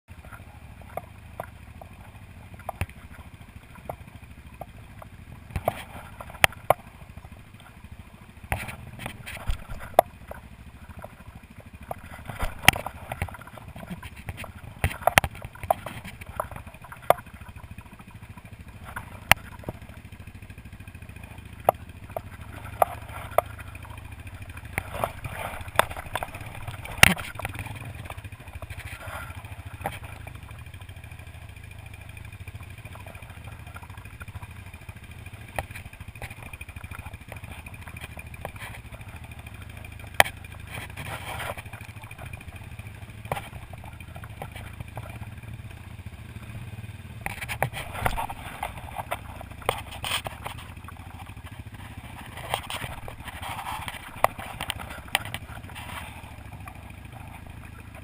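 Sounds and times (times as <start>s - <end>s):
atv engine running: 0.1s - 58.0s.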